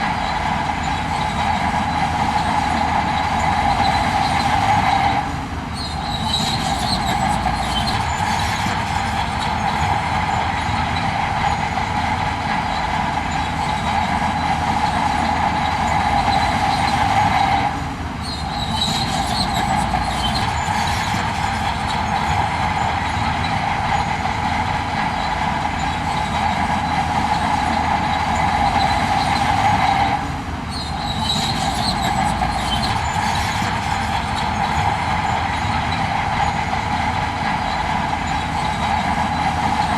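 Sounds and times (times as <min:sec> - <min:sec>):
diesel engine under load: 0:00.0 - 0:39.9
high whine: 0:00.0 - 0:39.9.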